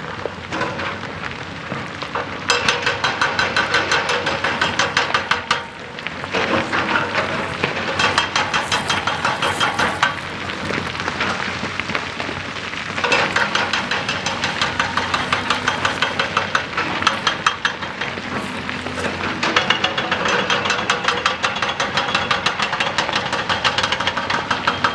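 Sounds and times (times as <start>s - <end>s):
excavator engine running: 0.0s - 24.9s
hydraulic rock breaker hammering: 0.0s - 24.9s.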